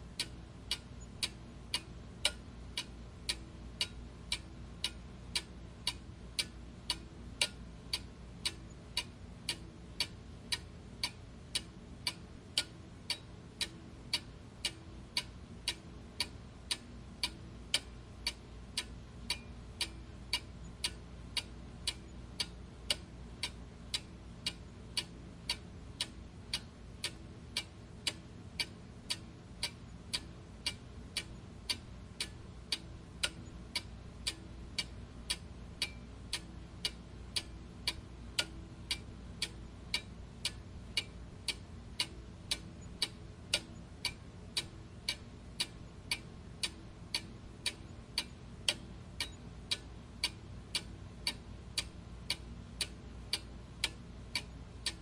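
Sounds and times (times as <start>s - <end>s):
faint low hum: 0.0s - 55.0s
clock ticking: 0.2s - 55.0s.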